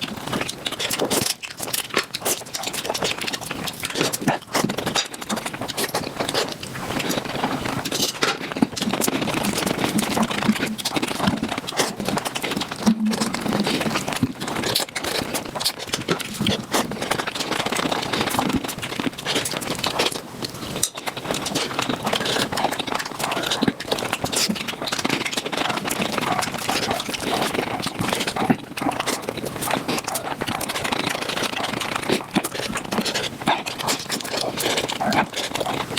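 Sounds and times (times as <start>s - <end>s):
wet chewing and sucking: 0.0s - 35.9s.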